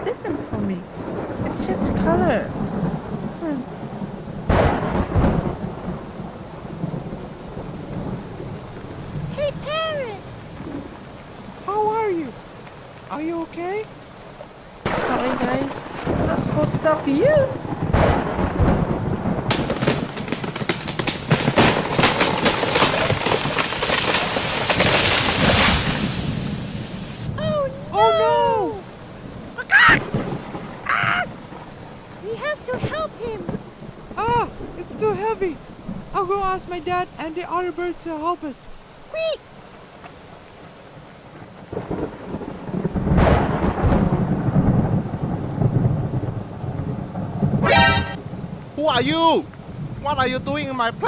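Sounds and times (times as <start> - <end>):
crackling thunderclap: 0.0 - 13.8, 14.7 - 38.8, 41.3 - 51.0
steady rain: 0.0 - 51.0.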